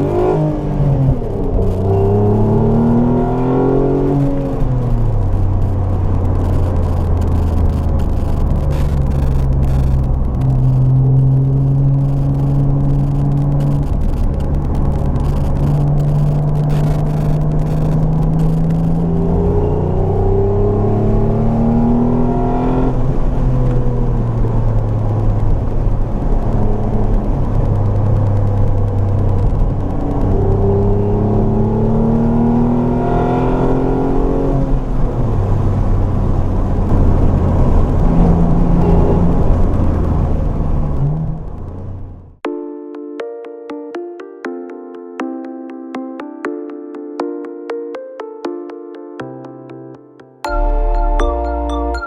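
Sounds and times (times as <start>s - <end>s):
car engine revving: 0.0s - 42.4s.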